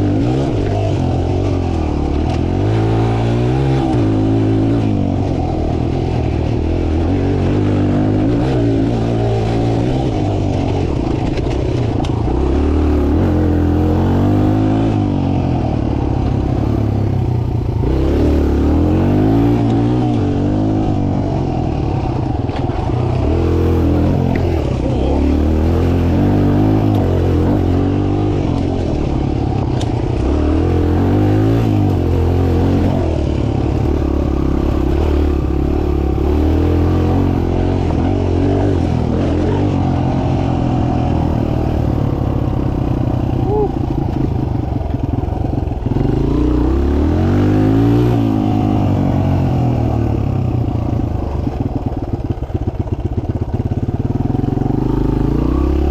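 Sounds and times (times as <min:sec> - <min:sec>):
dirt bike engine revving: 0:00.0 - 0:51.6, 0:53.7 - 0:55.9.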